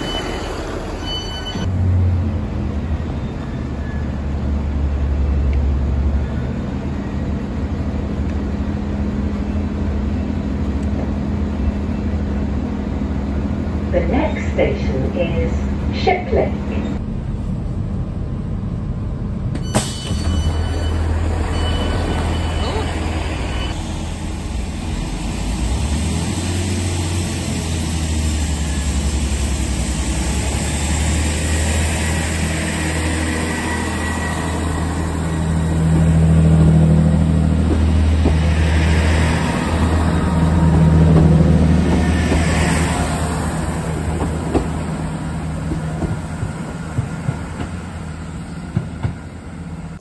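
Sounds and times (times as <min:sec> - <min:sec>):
train engine drone: 0:00.0 - 0:50.0.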